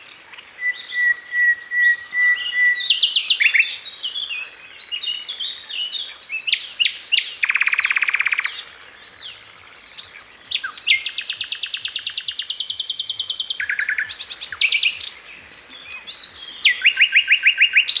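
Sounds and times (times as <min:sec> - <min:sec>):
songbird singing with trills: 0:00.0 - 0:18.0.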